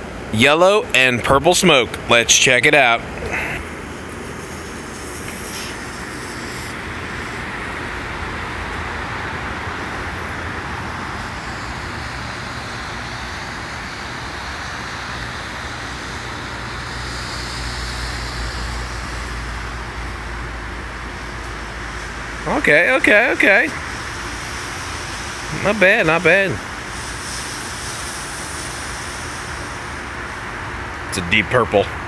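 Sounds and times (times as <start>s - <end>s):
smoke firework hissing: 3.2s - 31.5s.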